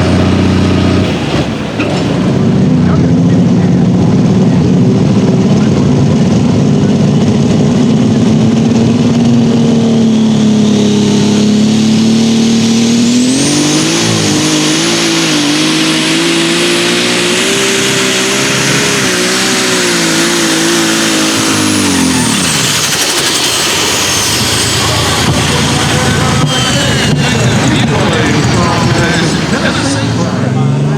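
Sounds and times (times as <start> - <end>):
diesel tractor engine revving: 0.0 - 30.9.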